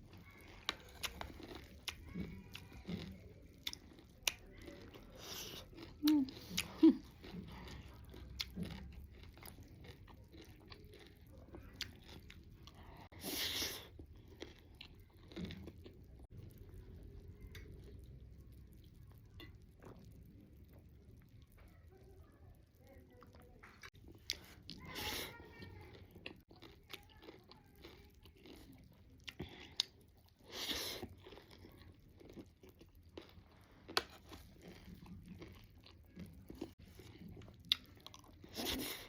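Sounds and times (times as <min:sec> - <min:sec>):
chewing and crunching snack: 0:00.0 - 0:39.0.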